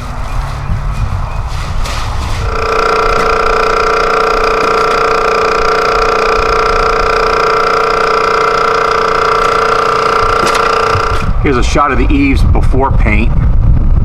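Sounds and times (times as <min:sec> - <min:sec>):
steady machine whine: 0:00.0 - 0:12.1.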